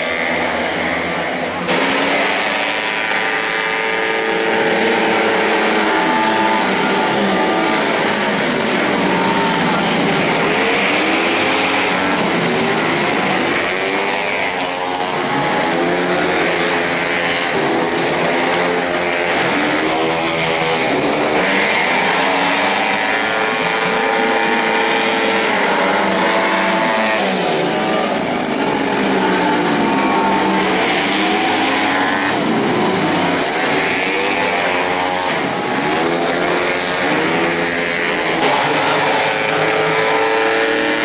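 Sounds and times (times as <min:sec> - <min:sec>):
motorcycles revving past: 0:00.0 - 0:41.0.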